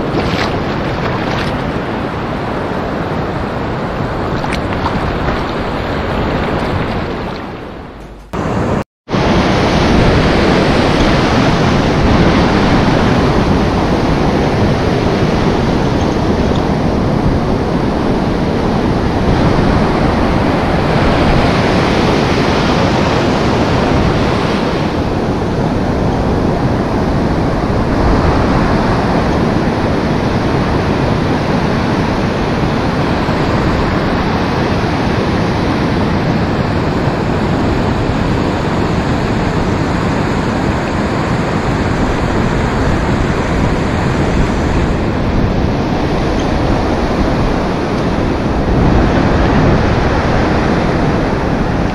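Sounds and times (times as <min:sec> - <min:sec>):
surf breaking on beach: 0:00.0 - 0:51.9
wind on microphone: 0:00.0 - 0:51.9.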